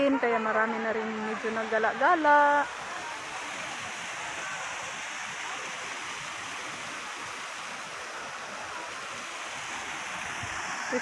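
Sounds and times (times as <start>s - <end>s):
water rushing over waterfall: 0.1s - 11.0s.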